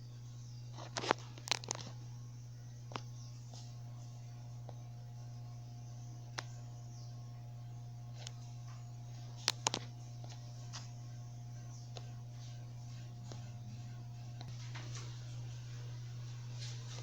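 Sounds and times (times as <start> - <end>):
ceiling fan motor hum: 0.0 - 17.0.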